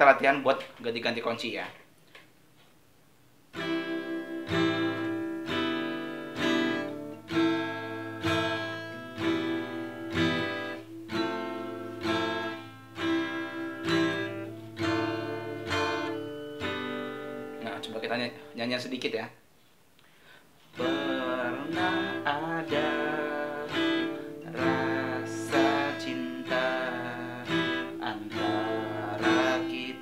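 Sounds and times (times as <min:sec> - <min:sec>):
classical guitar strumming chords: 0:03.5 - 0:19.0, 0:20.7 - 0:30.0.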